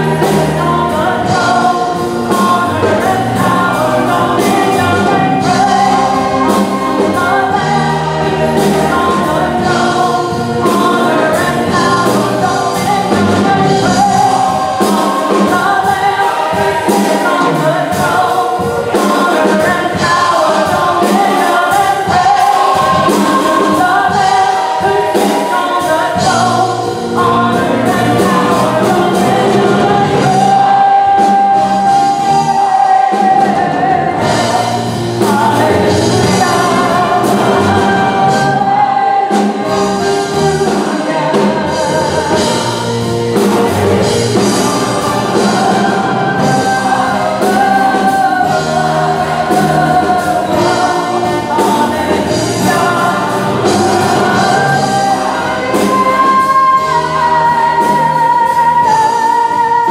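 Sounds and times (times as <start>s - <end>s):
choir and orchestra: 0.0s - 59.9s
woman singing gospel song: 0.0s - 59.9s.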